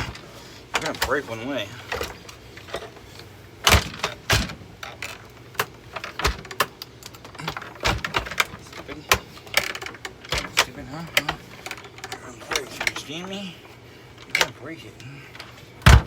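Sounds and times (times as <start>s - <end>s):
plastic clicks creaks and knocks: 0.0s - 13.3s, 14.2s - 14.6s, 15.3s - 16.0s.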